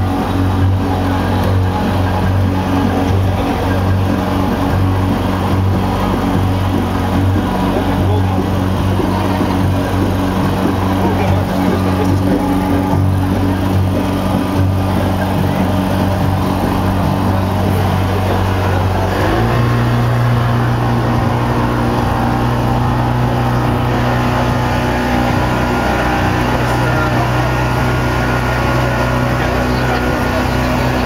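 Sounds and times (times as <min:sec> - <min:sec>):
motorboat engine running: 0:00.0 - 0:31.0
water rushing along hull: 0:00.0 - 0:31.0.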